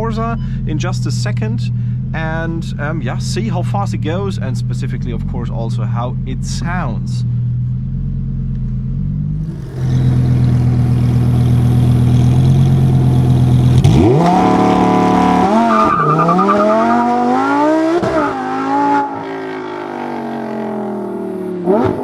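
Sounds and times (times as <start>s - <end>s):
sports car engine revving: 0.8s - 22.0s.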